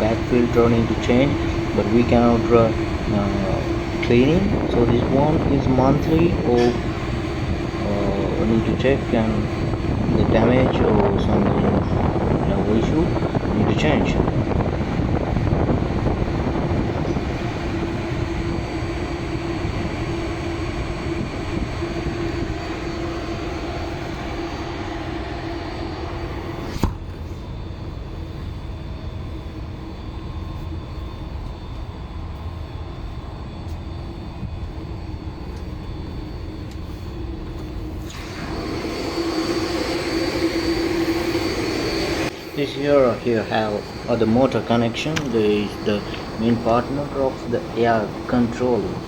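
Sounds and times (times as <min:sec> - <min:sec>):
fan and motor humming: 0:00.0 - 0:49.0.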